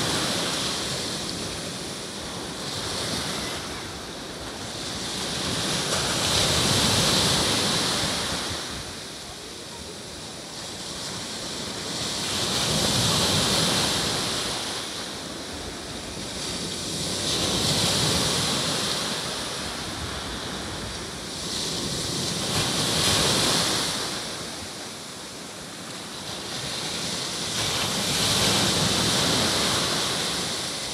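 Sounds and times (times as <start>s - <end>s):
surf breaking on shore: 0.0s - 30.9s.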